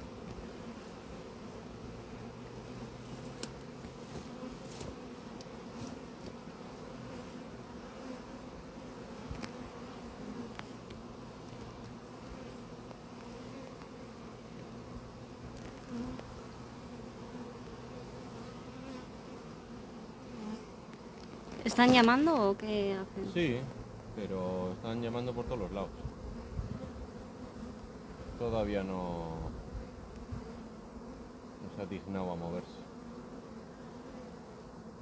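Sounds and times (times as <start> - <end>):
bee swarm buzzing: 0.0 - 35.0.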